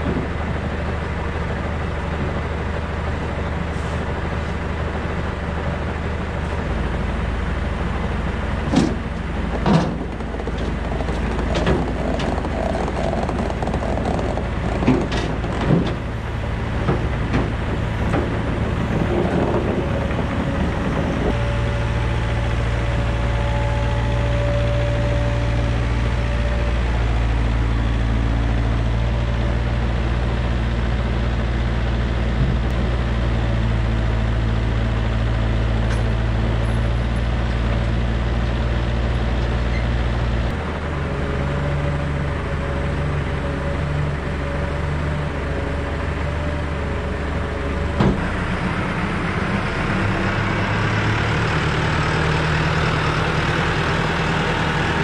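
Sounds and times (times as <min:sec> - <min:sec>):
mini excavator diesel engine: 0:00.0 - 0:55.0
tractor diesel engine: 0:00.0 - 0:55.0.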